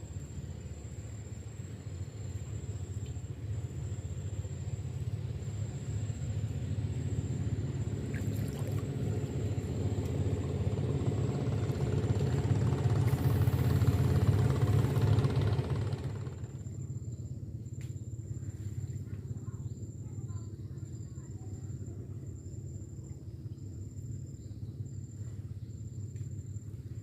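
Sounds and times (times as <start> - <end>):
small boat engine humming: 0.0 - 27.0.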